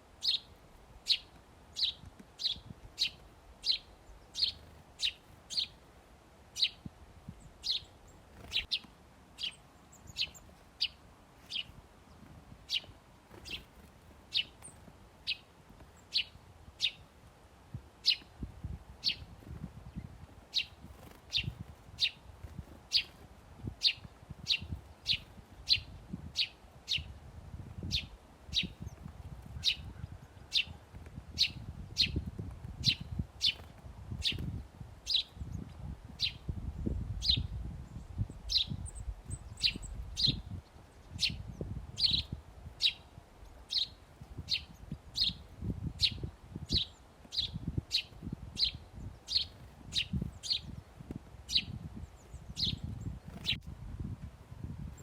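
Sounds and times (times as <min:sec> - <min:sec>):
songbird chirping: 0:00.1 - 0:05.9, 0:06.5 - 0:17.2, 0:19.0 - 0:27.2, 0:27.8 - 0:36.5, 0:37.1 - 0:53.7.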